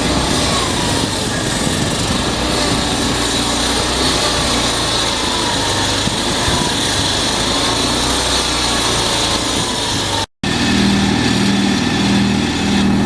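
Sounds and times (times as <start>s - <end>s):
locomotive machinery running: 0.0s - 13.0s.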